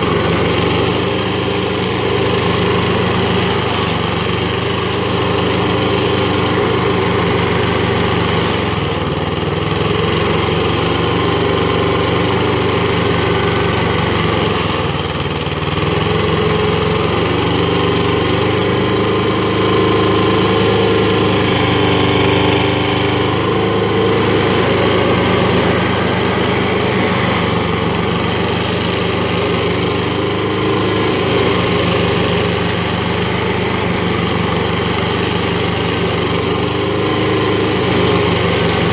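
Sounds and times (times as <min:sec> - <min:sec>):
stump grinder engine running: 0:00.0 - 0:38.9.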